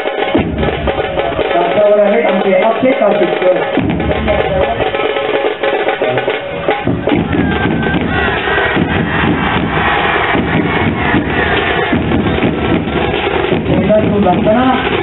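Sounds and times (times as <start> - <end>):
loud drumming: 0.0 - 15.0.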